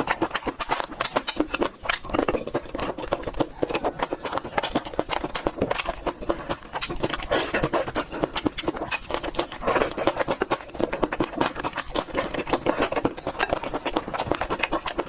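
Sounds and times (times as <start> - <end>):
chewing and mouth smacking: 0.0 - 15.0.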